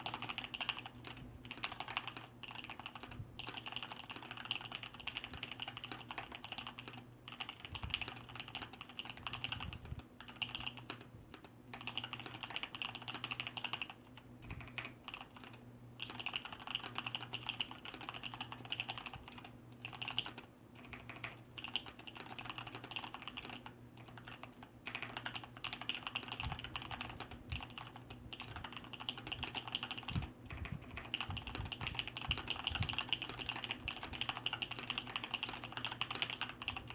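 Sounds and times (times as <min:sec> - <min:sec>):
fast mechanical keyboard typing: 0:00.0 - 0:36.9.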